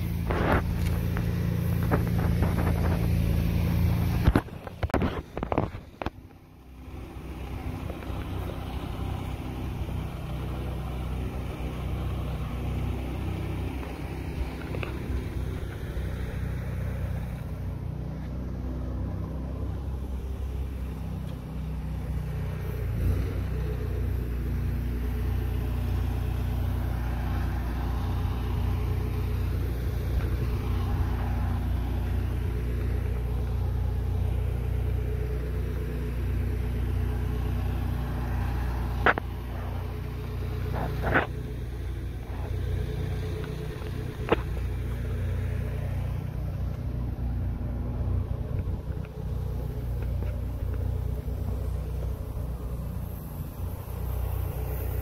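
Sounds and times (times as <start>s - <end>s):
engine rumbling: 0.0s - 55.0s.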